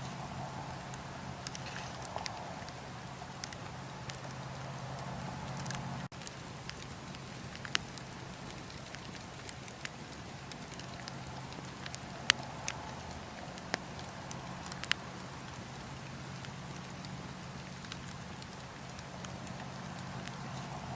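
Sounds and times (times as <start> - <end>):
steady low hum: 0.0 - 20.9
wood fire crackling: 0.0 - 20.9.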